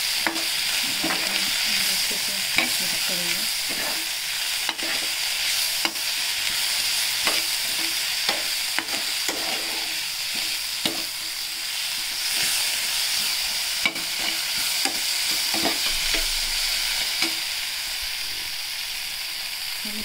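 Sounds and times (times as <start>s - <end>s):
masala sizzling in hot oil: 0.0s - 20.0s
metal spoon scraping a pan: 0.2s - 17.5s.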